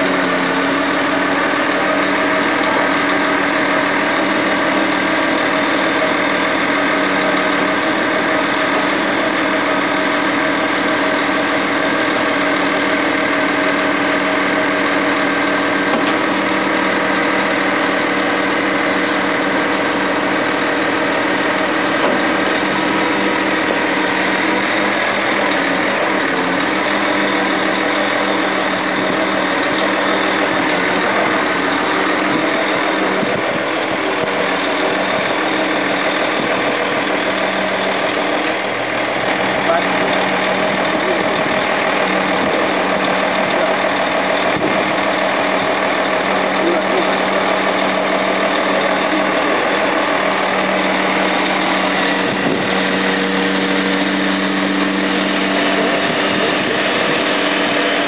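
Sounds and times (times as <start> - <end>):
truck engine and hydraulic pump drone: 0.0 - 58.0.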